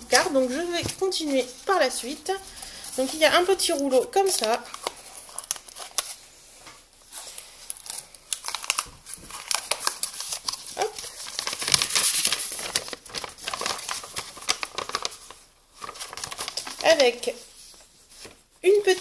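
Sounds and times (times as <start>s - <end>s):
paper rustling and crinkling: 0.1s - 19.0s.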